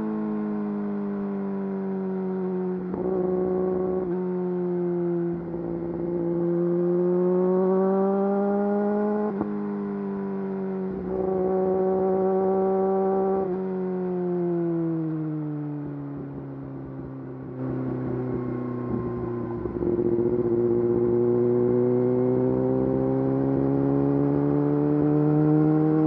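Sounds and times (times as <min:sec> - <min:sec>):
motorcycle engine revving: 0:02.0 - 0:04.3, 0:05.1 - 0:15.3, 0:15.9 - 0:26.0.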